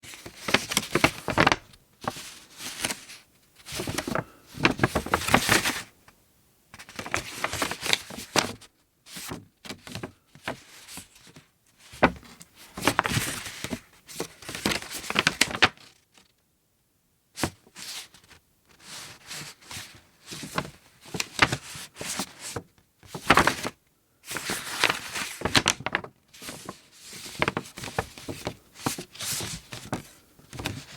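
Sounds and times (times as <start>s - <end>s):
thick paper rustling: 0.0s - 5.9s, 6.8s - 11.2s, 11.9s - 15.9s, 18.8s - 30.9s.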